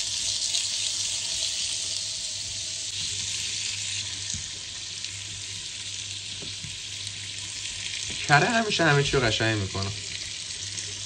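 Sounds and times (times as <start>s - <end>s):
potatoes and butter sizzling: 0.0s - 11.0s.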